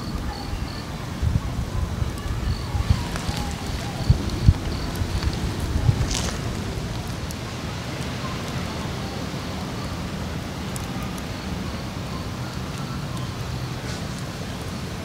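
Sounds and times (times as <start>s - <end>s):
steady rumbling noise: 0.0s - 15.0s.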